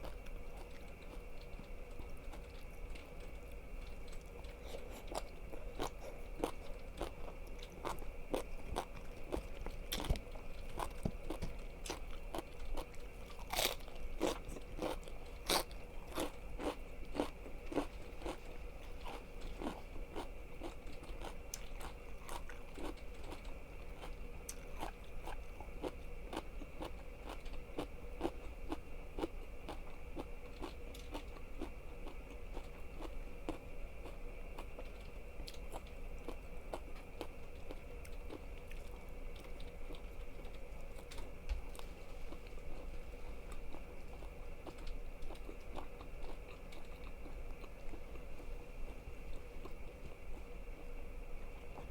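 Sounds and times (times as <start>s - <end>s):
chewing crunchy food: 0.0s - 51.9s.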